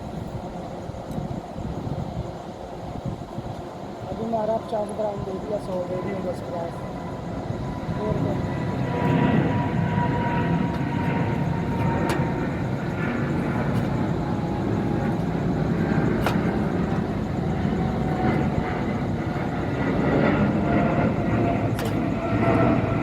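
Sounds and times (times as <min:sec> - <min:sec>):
faint steady whine: 0:00.0 - 0:23.0.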